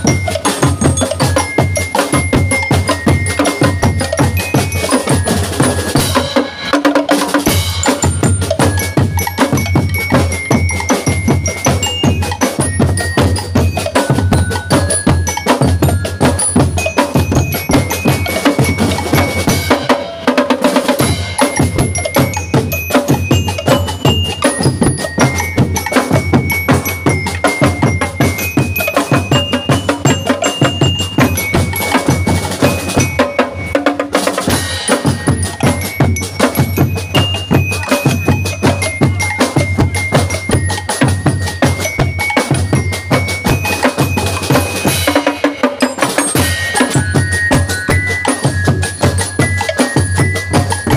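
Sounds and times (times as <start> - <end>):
bell lyres playing a tune: 0.0 - 50.9
marching drums: 0.0 - 50.9.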